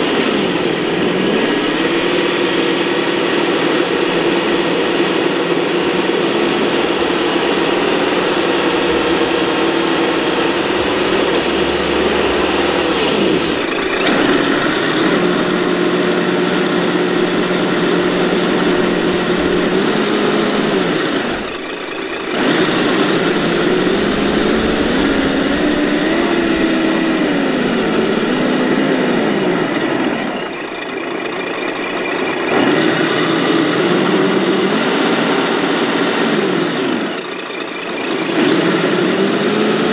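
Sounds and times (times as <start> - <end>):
rc truck motor drone: 0.0 - 39.9.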